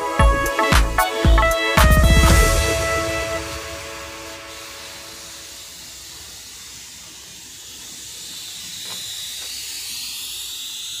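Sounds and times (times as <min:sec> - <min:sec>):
paint spray gun hissing: 0:01.6 - 0:11.0.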